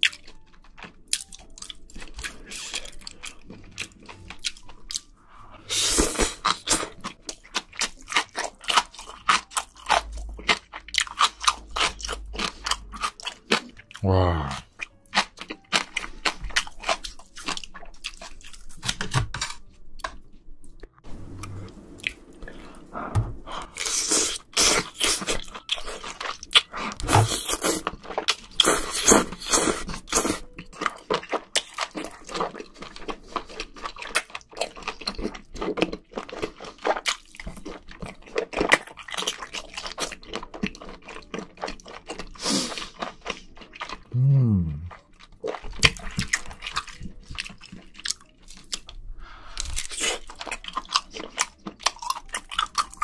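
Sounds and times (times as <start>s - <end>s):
wet chewing: 0.0s - 22.8s, 23.5s - 44.1s, 44.8s - 53.0s.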